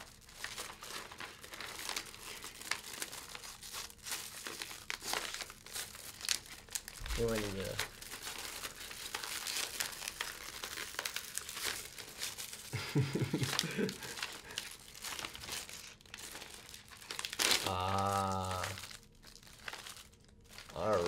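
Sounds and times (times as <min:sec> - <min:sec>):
plastic bag crinkling and tearing: 0:00.0 - 0:21.0.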